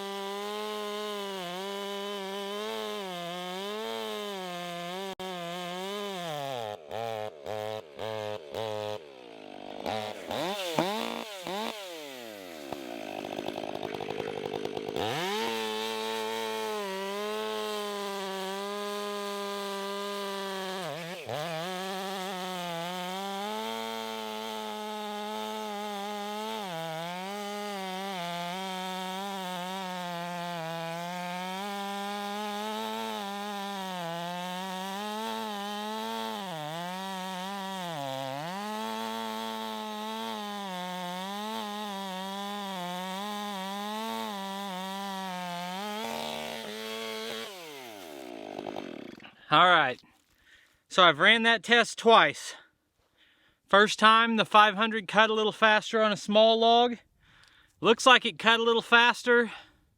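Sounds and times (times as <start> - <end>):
chainsaw cutting log: 0.0 - 51.4.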